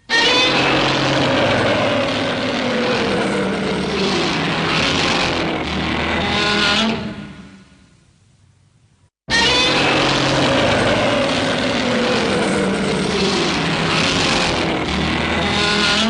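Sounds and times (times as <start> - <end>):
monster roar screeching cry: 0.1 - 7.4, 9.3 - 16.0.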